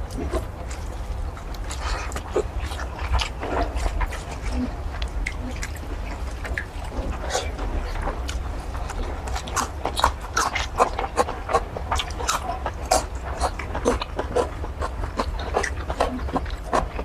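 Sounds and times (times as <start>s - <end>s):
wet chewing and smacking: 0.0s - 17.0s.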